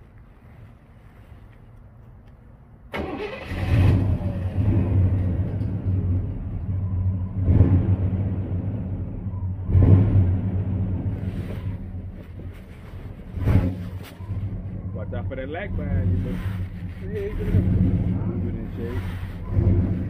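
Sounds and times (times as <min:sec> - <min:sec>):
car engine starting and revving: 0:02.9 - 0:20.0.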